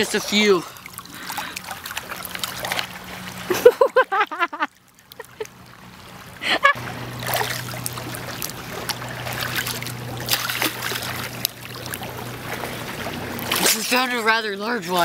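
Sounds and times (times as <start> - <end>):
seawater sloshing and splashing: 0.0 - 15.0
steady low hum: 0.0 - 15.0.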